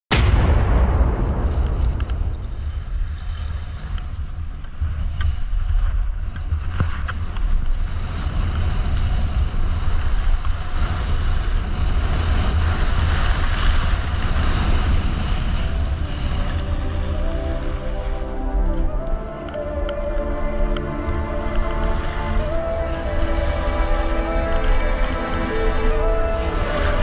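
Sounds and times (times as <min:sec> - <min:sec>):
wind buffeting microphone: 0:00.1 - 0:27.0
skis sliding on snow: 0:02.6 - 0:27.0.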